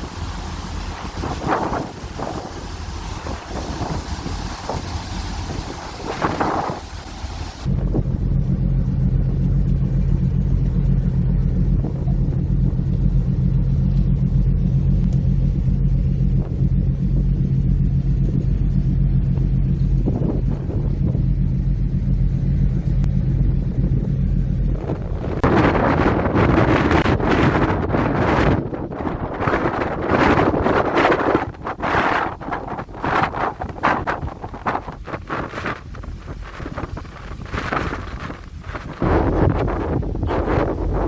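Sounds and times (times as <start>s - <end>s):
ferry engines droning: 0.0s - 41.0s.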